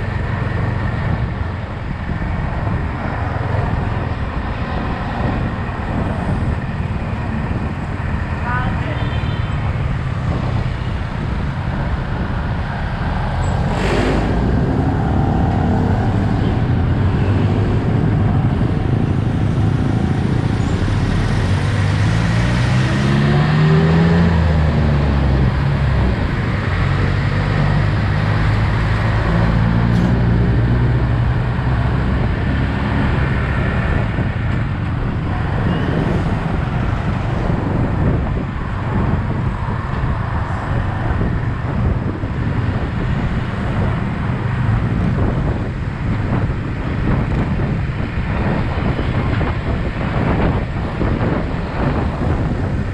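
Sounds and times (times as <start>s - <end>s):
wind and road noise: 0.0s - 52.9s.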